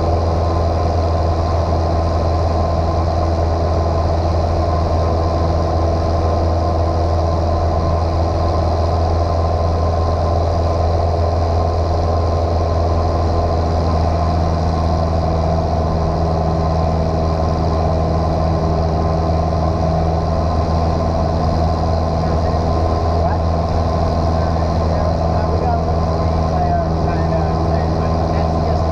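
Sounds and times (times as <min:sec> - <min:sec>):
airplane engine and propeller drone: 0:00.0 - 0:28.9.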